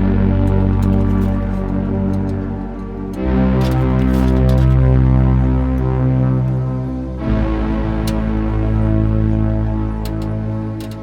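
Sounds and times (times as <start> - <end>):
deep bass: 0.0 - 11.0
synthesizer chords: 0.0 - 11.0.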